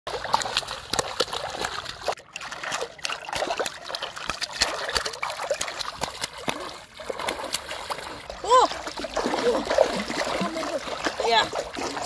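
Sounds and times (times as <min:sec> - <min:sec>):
fish splashing at surface: 0:00.1 - 0:12.0.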